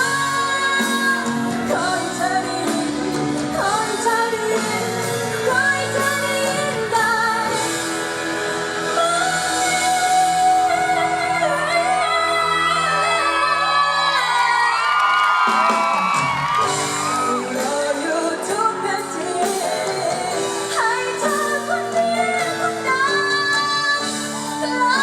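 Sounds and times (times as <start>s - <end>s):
person singing with vibrato: 0.0s - 15.0s, 16.8s - 25.0s.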